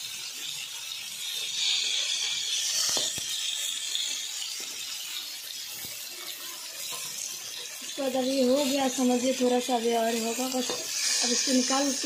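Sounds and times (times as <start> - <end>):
gourds sizzling in oil: 0.0 - 12.0.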